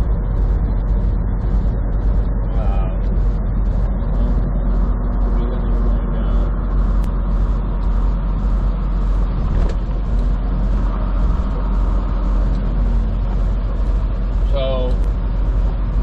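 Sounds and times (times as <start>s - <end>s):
diesel truck engine rumble: 0.0s - 16.0s
road noise: 0.0s - 16.0s.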